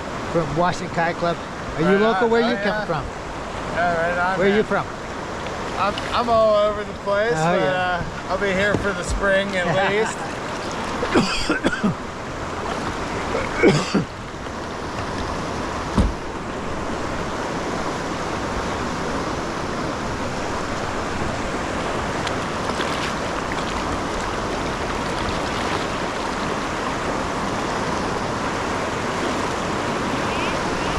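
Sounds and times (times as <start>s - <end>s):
whitewater river rushing: 0.0s - 30.9s.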